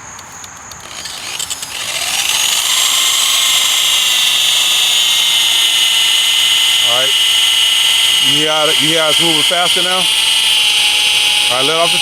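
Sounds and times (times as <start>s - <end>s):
electric buffer whine: 0.0s - 12.0s.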